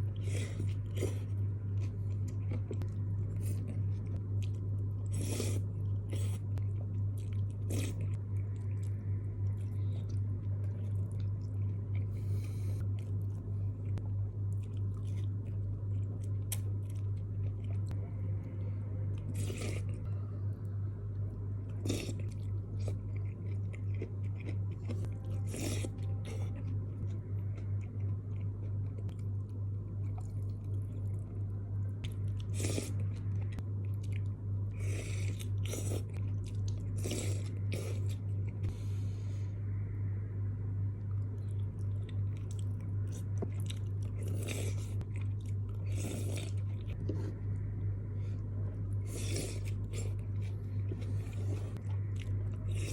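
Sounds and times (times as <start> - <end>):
close chewing and eating: 0.0 - 39.4, 40.9 - 52.9
steady low hum: 0.0 - 52.9.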